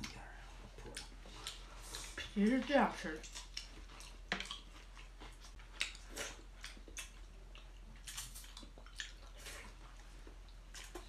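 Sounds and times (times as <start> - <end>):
wet chewing and slurping: 0.6 - 11.0.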